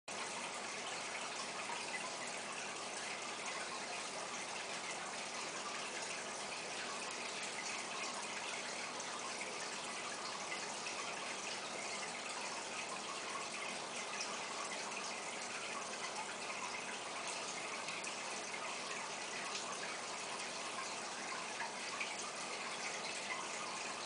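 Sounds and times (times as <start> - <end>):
aquarium water bubbling and splashing: 0.1 - 24.0.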